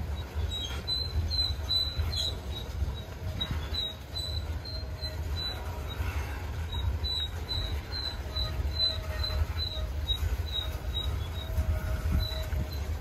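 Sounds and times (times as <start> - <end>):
freight cars rumbling past: 0.0 - 13.0
short high squeaks: 0.0 - 13.0.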